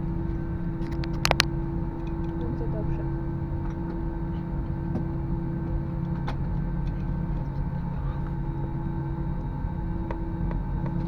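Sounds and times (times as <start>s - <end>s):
airplane cabin hum: 0.0s - 11.0s.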